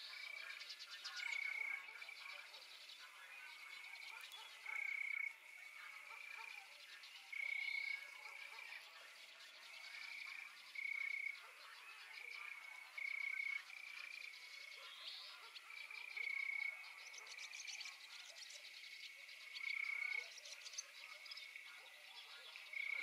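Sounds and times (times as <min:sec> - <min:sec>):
frogs croaking: 0:00.0 - 0:23.0.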